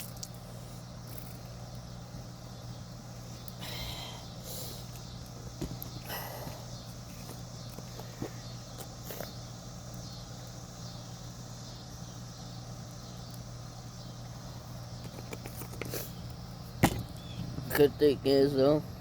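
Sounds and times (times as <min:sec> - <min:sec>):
faint outdoor background noise: 0:00.0 - 0:19.0
steady low hum: 0:00.0 - 0:19.0.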